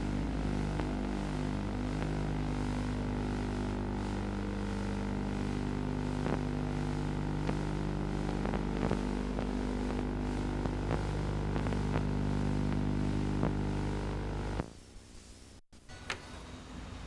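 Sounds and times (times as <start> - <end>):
electrical hum: 0.0 - 15.6
crackling clicks: 0.3 - 14.7.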